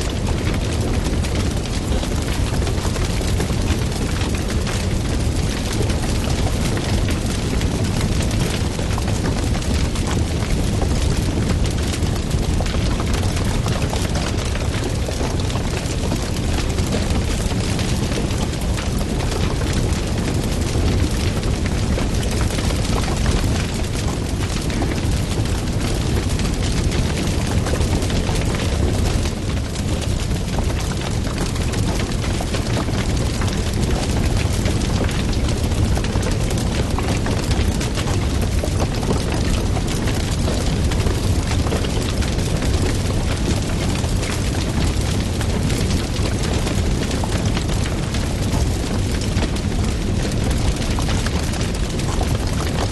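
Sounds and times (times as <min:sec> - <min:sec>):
wood fire crackling and popping: 0:00.0 - 0:52.9
fire low roar: 0:00.1 - 0:52.8.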